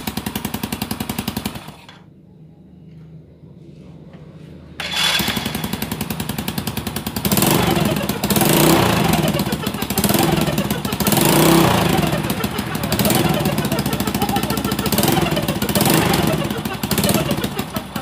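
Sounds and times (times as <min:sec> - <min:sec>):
motorcycle engine surging: 0:00.0 - 0:02.1, 0:04.7 - 0:18.0.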